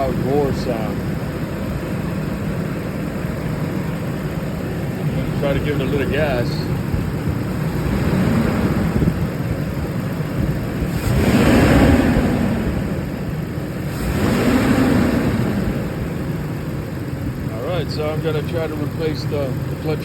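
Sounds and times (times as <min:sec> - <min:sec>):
cooling fan roaring: 0:00.0 - 0:20.0
engine revving: 0:00.0 - 0:20.0.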